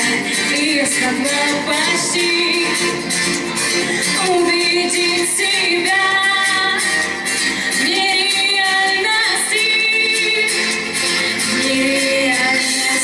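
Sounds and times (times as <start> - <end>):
woman singing into a microphone: 0.0 - 3.1, 3.9 - 13.0
backing track with steady beat: 0.0 - 13.0.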